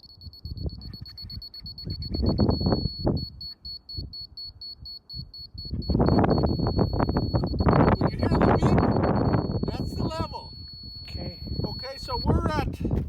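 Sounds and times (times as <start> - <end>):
high-pitched rapid beeping: 0.0 - 12.7.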